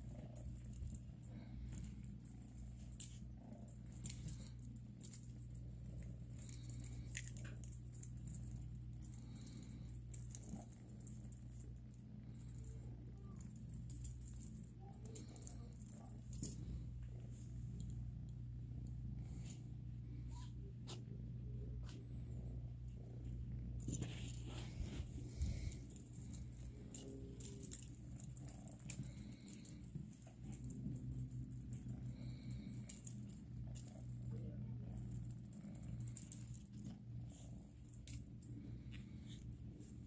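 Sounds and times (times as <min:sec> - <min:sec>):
toy rattling and jingling: 0:00.0 - 0:16.8, 0:21.8 - 0:40.0
low steady hum: 0:00.0 - 0:40.0.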